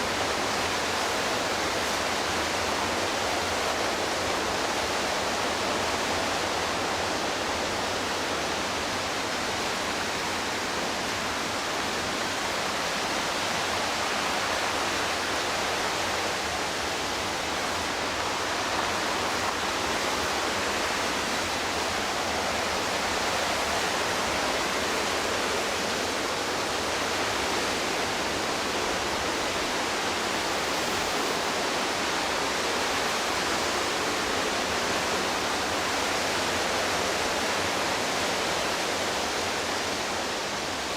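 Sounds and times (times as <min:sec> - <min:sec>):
whitewater rushing: 0:00.0 - 0:40.9.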